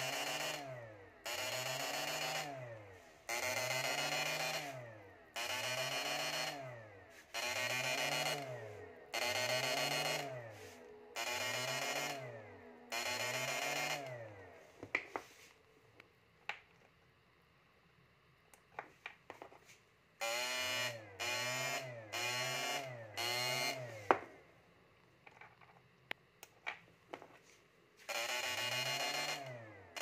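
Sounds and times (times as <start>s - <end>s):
inverter humming with wavering pitch: 0.0s - 18.8s, 20.2s - 30.0s.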